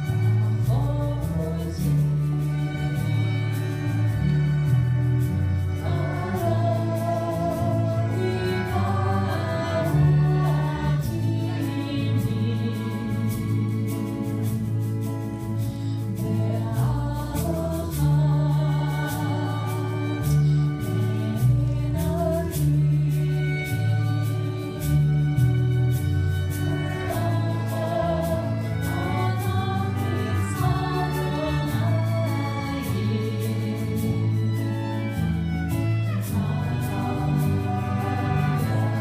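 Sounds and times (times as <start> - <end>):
voices singing: 0.0 - 15.0, 16.0 - 39.0
acoustic guitar and plucked strings: 0.0 - 39.0
low bass line: 0.0 - 39.0.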